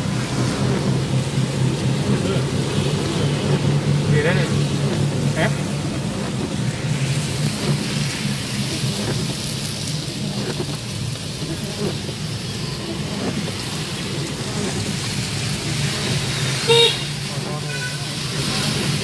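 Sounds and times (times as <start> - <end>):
engine and tyre hum: 0.0 - 19.0
rain pattering on car roof: 0.0 - 19.0.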